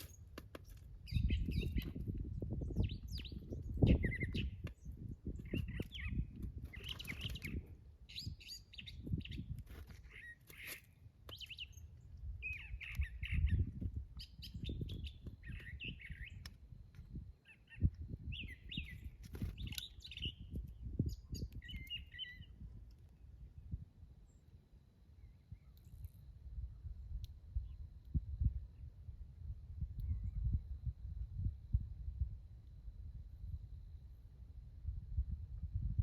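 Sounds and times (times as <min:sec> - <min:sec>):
songbirds chirping and twittering: 0:00.0 - 0:34.6.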